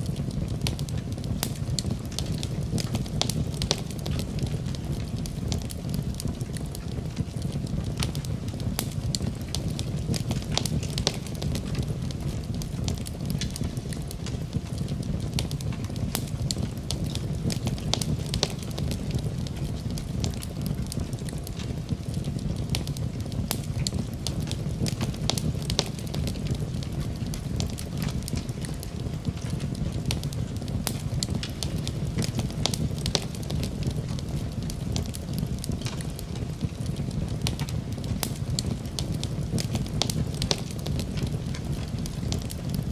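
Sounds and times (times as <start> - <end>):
burning wood crackling: 0.0 - 42.9
low rumble of flame: 0.0 - 42.9.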